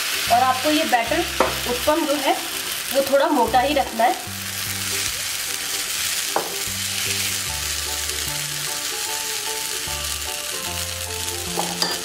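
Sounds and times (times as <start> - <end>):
background music: 0.0 - 12.0
batter sizzling in oil: 0.0 - 12.0.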